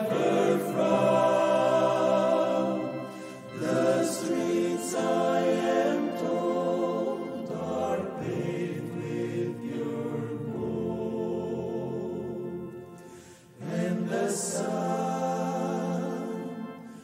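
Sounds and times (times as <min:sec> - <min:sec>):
men's choir singing in harmony: 0:00.0 - 0:17.0.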